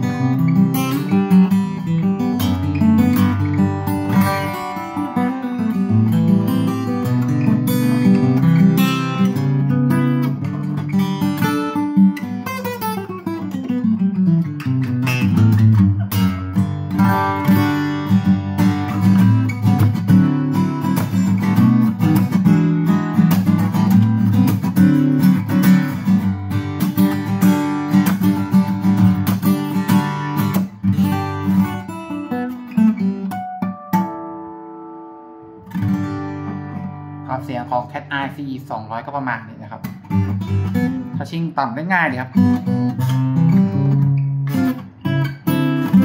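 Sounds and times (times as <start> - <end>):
acoustic guitar fingerstyle: 0.0 - 46.0.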